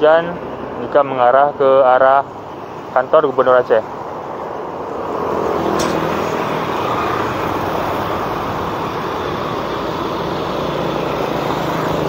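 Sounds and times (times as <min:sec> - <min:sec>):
motorcycles and cars passing: 0:00.0 - 0:12.0.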